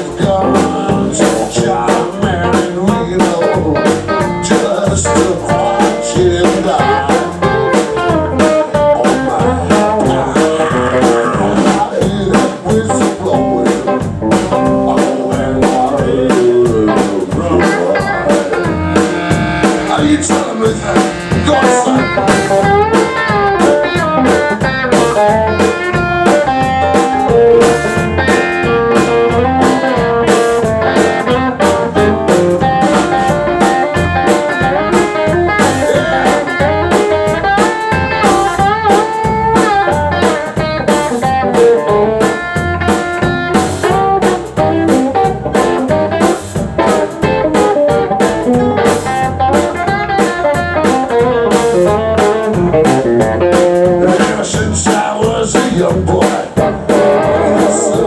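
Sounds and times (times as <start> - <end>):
blues band playing: 0.0 - 58.0
drum kit steady beat: 0.0 - 58.0
electric guitar with bent notes: 0.0 - 58.0.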